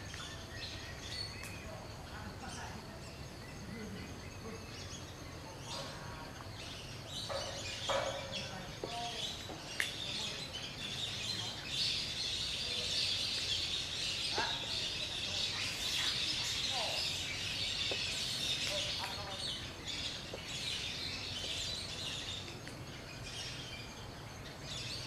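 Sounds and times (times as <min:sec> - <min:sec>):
bird-like chirps: 0:00.0 - 0:25.0.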